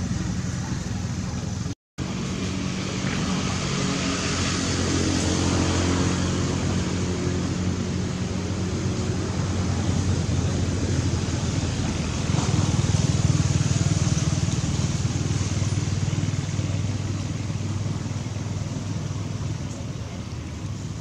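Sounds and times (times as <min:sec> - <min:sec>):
motor engine running: 0:00.0 - 0:21.0.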